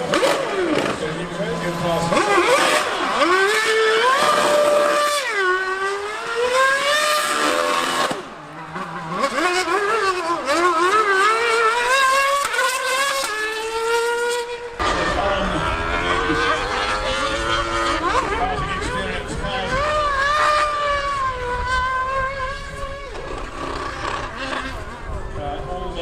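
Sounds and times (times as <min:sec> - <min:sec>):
racing car engine revving: 0:00.0 - 0:26.0
superbike engine revving: 0:00.0 - 0:26.0.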